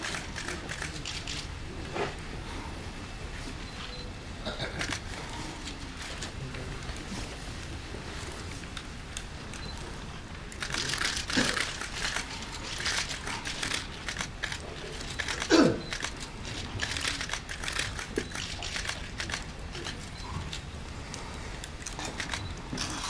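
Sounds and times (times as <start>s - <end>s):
fire of sticks crackling: 4.4s - 23.0s.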